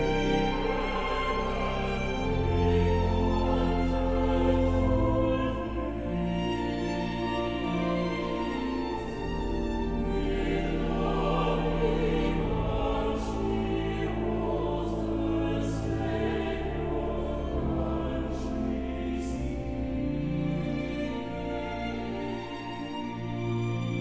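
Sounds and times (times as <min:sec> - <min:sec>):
choir singing long notes: 0:00.0 - 0:24.0.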